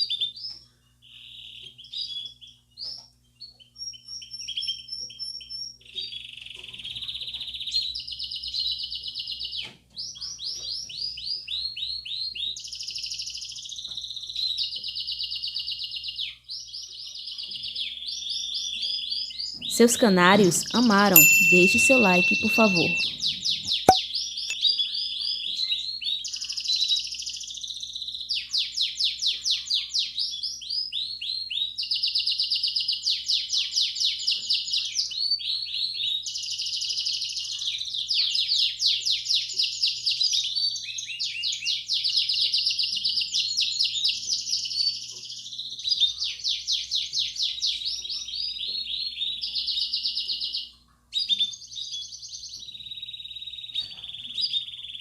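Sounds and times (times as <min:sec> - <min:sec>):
canary singing trills: 0:00.0 - 0:24.0, 0:24.8 - 0:55.0.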